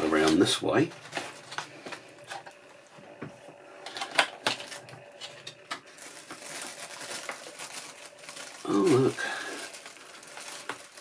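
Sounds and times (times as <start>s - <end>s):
plastic bag crinkling: 0.0s - 2.8s, 3.8s - 11.0s
plastic packaging crackling: 0.0s - 2.9s, 3.8s - 11.0s.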